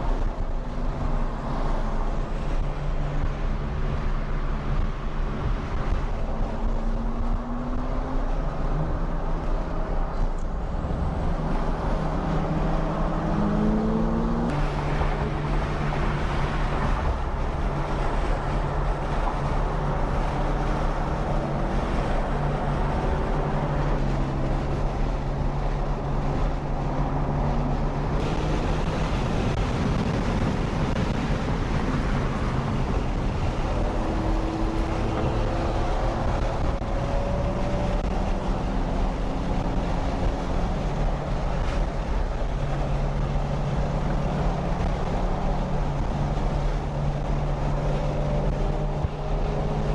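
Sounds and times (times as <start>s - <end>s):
car engine drone from cabin: 0.0s - 49.9s
wind noise: 0.0s - 49.9s.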